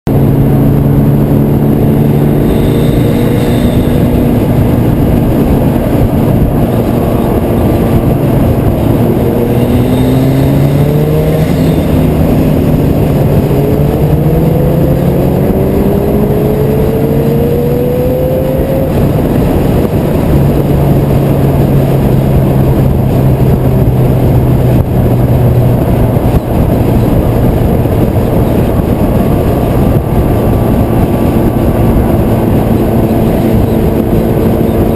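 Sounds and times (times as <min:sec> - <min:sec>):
road roar: 0:00.0 - 0:34.9
car engine droning: 0:00.1 - 0:34.9
wind noise: 0:00.1 - 0:34.9.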